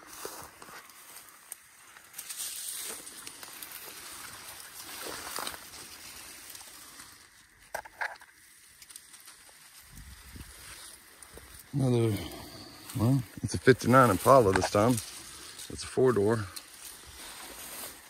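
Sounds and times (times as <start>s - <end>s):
footsteps on dry ground: 0.0s - 7.4s, 9.0s - 18.0s.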